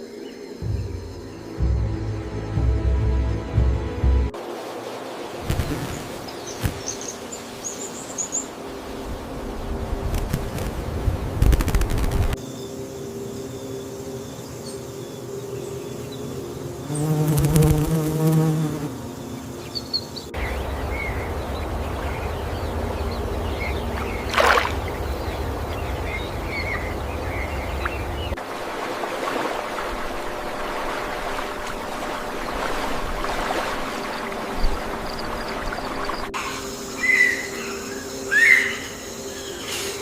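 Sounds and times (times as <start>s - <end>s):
flying insects buzzing: 4.4s - 40.0s.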